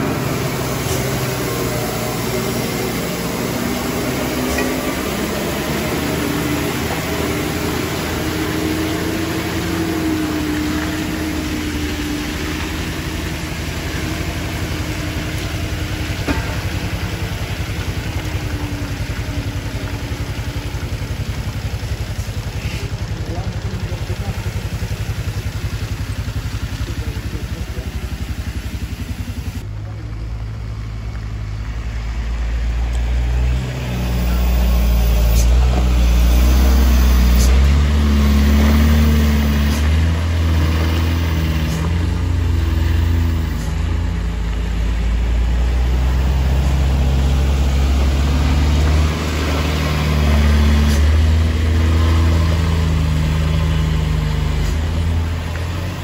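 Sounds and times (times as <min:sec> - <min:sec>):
truck engines running under load: 0:00.0 - 0:56.0.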